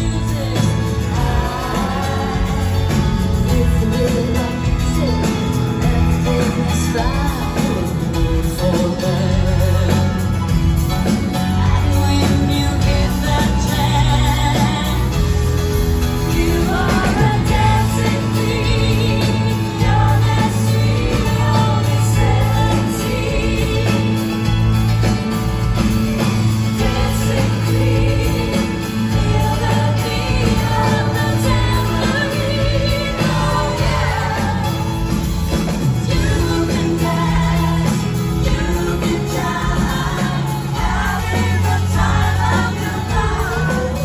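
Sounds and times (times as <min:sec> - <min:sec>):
live pop rock band: 0:00.0 - 0:44.0
man and woman singing: 0:00.0 - 0:44.0.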